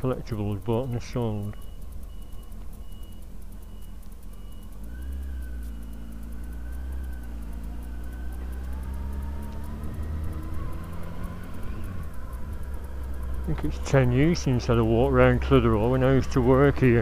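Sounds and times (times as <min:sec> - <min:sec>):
faint high beep: 0:00.0 - 0:17.0
motorcycle engine running: 0:00.0 - 0:17.0.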